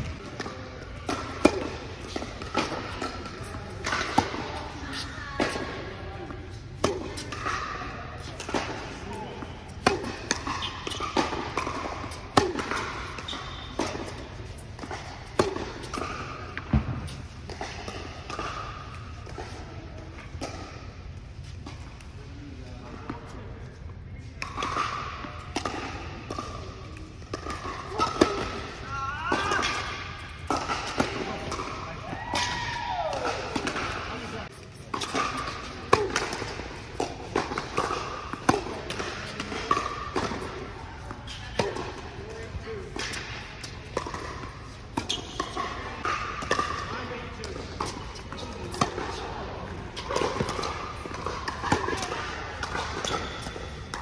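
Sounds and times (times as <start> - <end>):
ball bouncing on court: 0.0 - 19.6, 24.4 - 49.2, 50.0 - 54.0
tennis ball off racket: 0.1 - 20.8, 24.4 - 49.3, 49.9 - 54.0.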